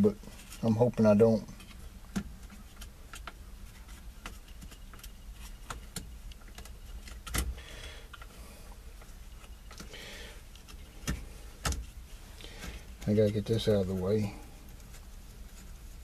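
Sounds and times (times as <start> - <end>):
soft rustling: 0.0 - 16.0.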